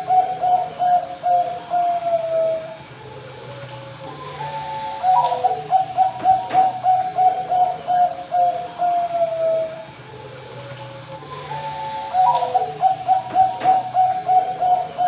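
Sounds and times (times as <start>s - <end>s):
dove cooing: 0.0s - 15.0s
steady low hum: 0.0s - 15.0s.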